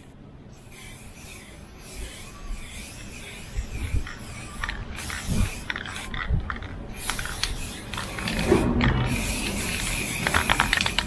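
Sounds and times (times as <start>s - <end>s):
aerosol can rattling: 0.7s - 11.0s.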